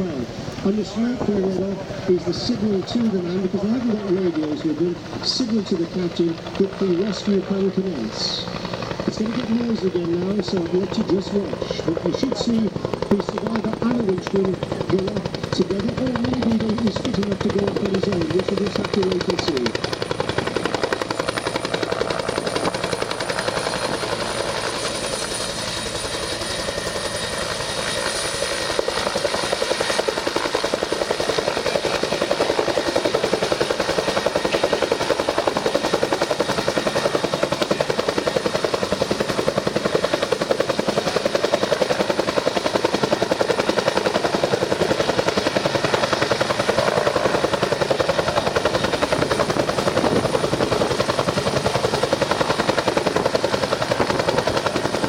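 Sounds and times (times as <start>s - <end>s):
helicopter rotor beating: 0.0s - 55.0s
turbine engine whine: 0.0s - 55.0s.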